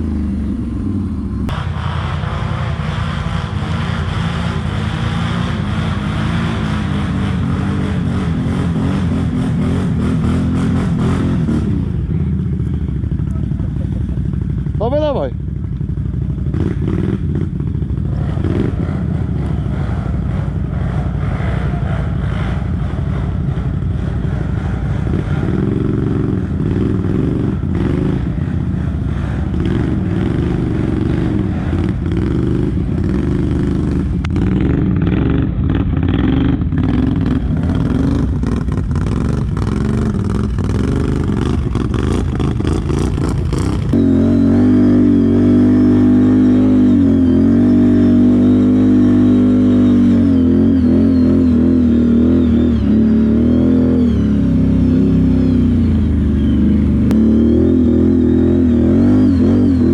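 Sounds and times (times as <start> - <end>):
atv engine under load: 2.6 - 59.9.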